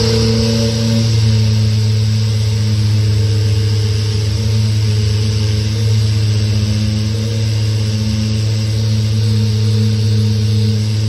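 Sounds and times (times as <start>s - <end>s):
orbital sander motor hum: 0.0s - 11.0s.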